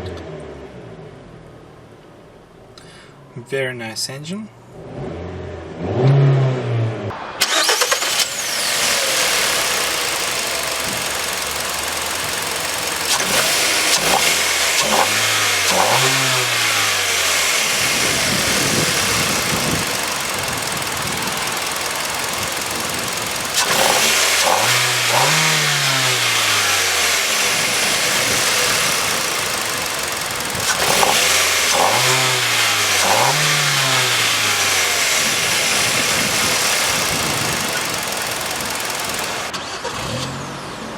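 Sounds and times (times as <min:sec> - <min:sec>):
car engine revving: 0:04.7 - 0:40.9.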